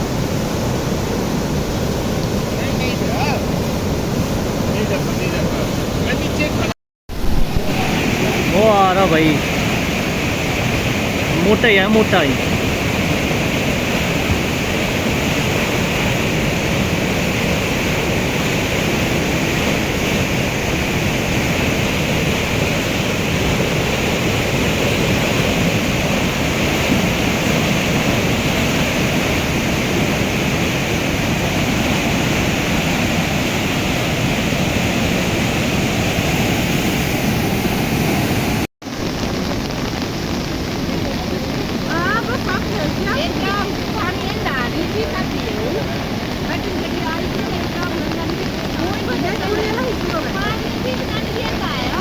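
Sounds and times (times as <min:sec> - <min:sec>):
river torrent rushing: 0:00.0 - 0:52.0.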